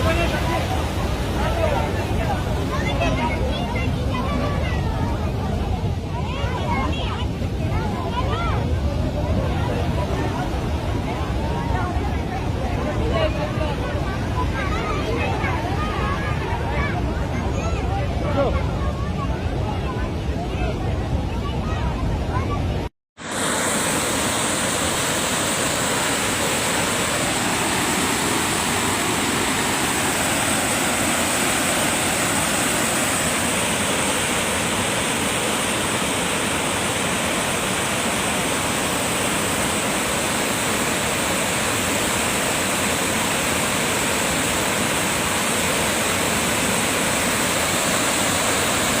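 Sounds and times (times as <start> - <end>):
rushing floodwater: 0.0 - 49.0.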